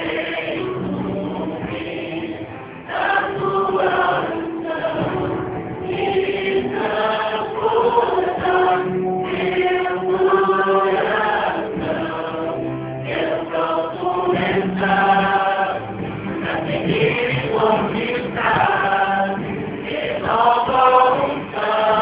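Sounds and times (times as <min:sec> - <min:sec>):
choir singing: 0:00.0 - 0:22.0
instrumental accompaniment: 0:00.0 - 0:22.0.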